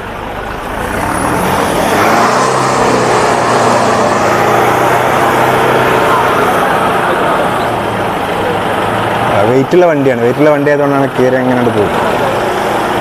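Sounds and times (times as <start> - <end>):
broad rushing noise: 0.0 - 13.0
car engine running hard: 0.0 - 13.0.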